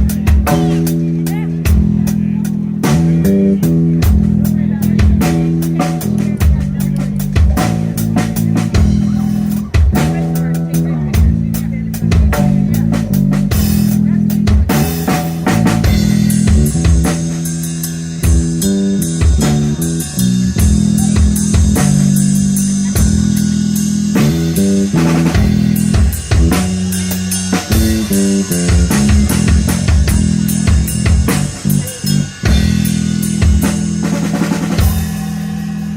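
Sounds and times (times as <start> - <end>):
bass guitar: 0.0 - 35.9
guitar: 0.0 - 35.9.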